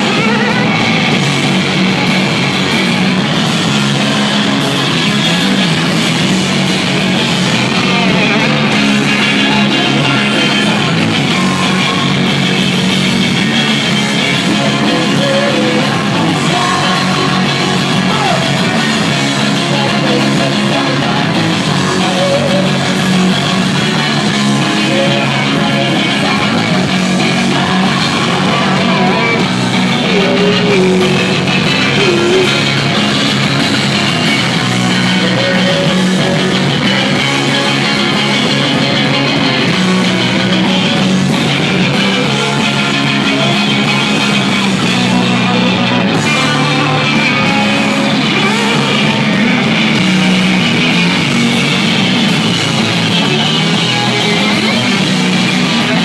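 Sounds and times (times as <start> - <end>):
bass: 0.0 - 56.0
drums: 0.0 - 56.0
electric guitars: 0.0 - 56.0.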